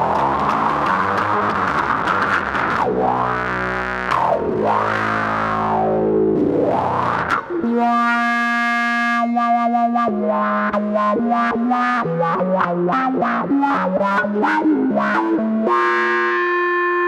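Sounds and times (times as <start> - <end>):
fuzz wah electric bass: 0.0 - 17.0.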